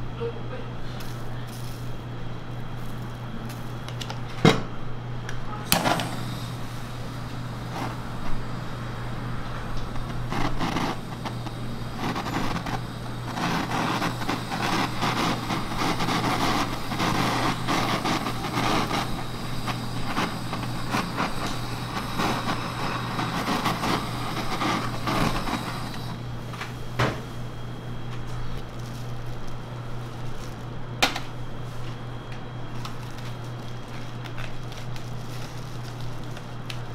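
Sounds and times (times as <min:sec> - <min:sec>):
melting sugar crackling: 0:00.8 - 0:04.3, 0:05.2 - 0:36.9
blowtorch flame: 0:05.6 - 0:36.9.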